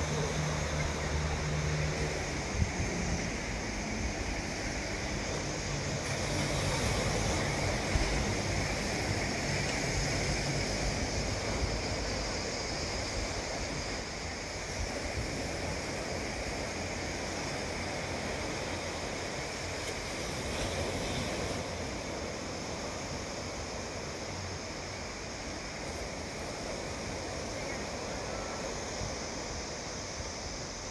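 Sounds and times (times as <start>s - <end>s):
sea waves washing onto shore: 0.0s - 30.9s
wind: 0.0s - 30.9s.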